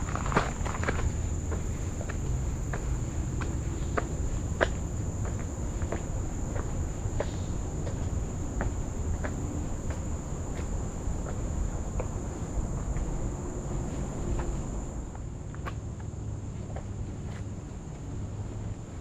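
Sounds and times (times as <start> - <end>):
footsteps on trail: 0.0 - 19.0
insects droning: 0.0 - 19.0.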